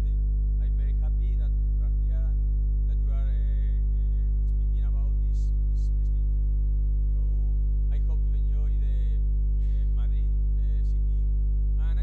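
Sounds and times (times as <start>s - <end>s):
muffled voice talking: 0.0s - 6.4s, 7.1s - 12.0s
electrical mains hum: 0.0s - 12.0s.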